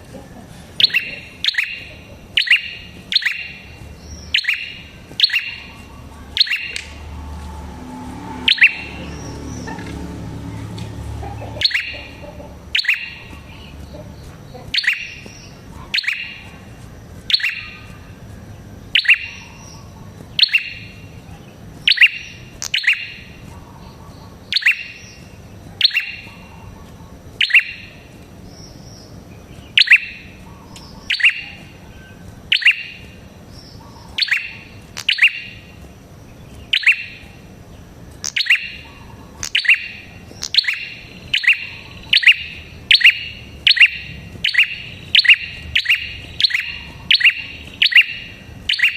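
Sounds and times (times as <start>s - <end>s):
bird calling sharp notes: 0.7s - 28.1s, 29.7s - 35.9s, 36.7s - 48.9s.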